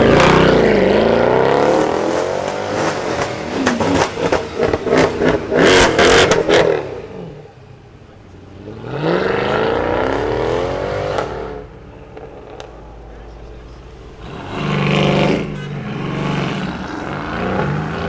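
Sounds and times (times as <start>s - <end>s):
engine revving with exhaust crackles: 0.0s - 7.6s, 8.2s - 18.0s
car engine pulling away: 0.0s - 18.0s.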